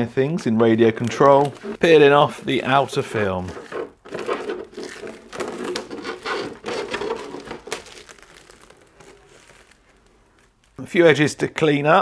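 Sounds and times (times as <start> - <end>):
plastic film peeling and crinkling: 0.6 - 11.1.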